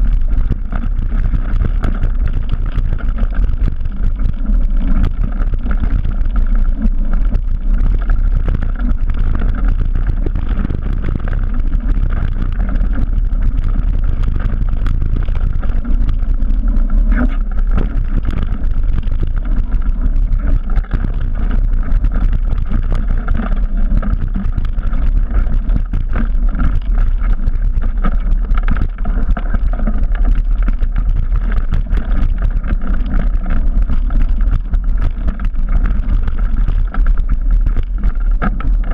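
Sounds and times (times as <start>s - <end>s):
mountain bike rattling and knocking: 0.0s - 38.9s
tyres rolling over dirt: 0.0s - 38.9s
wind buffeting microphone: 0.0s - 38.9s.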